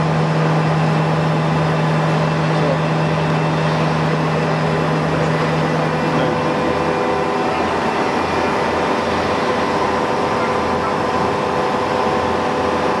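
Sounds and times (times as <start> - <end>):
boring mill mechanical hum: 0.0 - 13.0.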